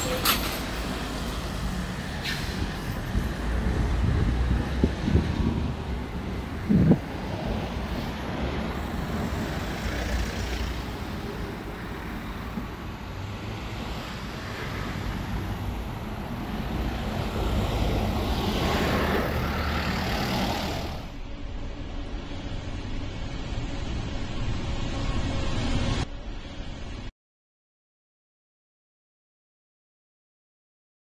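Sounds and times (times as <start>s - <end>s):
freight train rumbling: 0.0s - 27.0s.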